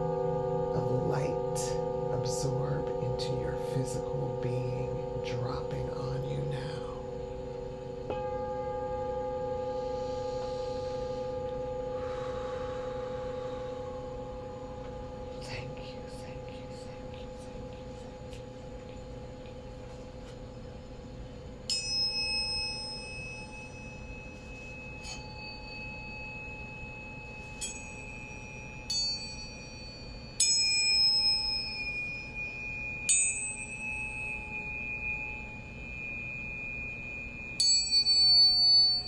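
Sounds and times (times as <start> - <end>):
metal chimes ringing: 0.0 - 20.0, 21.0 - 39.0
low held tones: 0.0 - 39.0.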